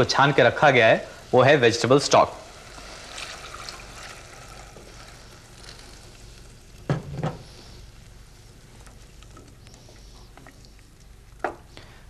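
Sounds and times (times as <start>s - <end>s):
soup sizzling softly: 0.0s - 12.0s.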